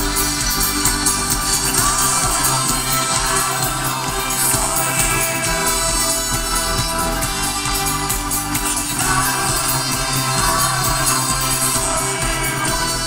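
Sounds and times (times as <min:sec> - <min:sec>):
folk rock band playing loudly: 0:00.0 - 0:13.0
person singing: 0:00.0 - 0:13.0.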